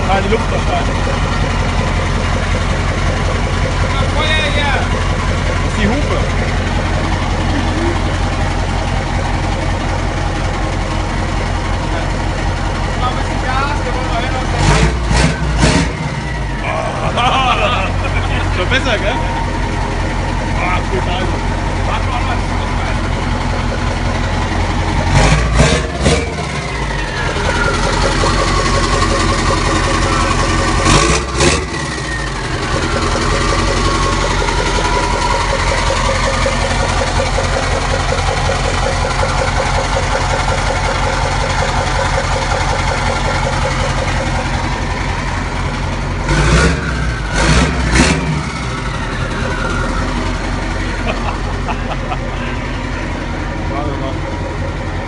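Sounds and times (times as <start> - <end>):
diesel truck engine idling: 0.0 - 55.0
engine revving: 0.0 - 55.0.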